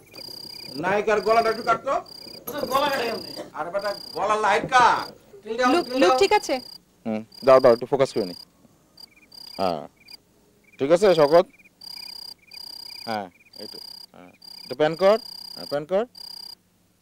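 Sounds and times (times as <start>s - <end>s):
crickets chirping: 0.0s - 16.6s.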